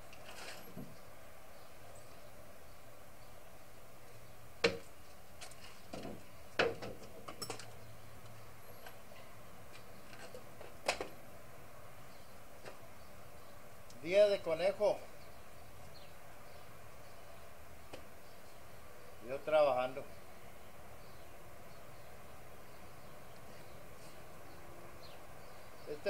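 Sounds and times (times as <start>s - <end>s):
faint steady background noise: 0.0s - 26.0s.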